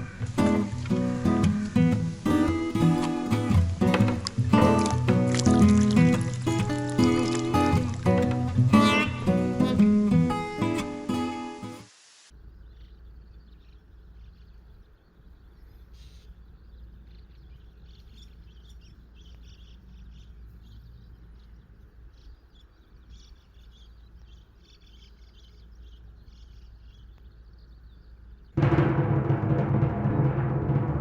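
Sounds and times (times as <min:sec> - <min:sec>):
small birds chirping: 0:00.0 - 0:28.6.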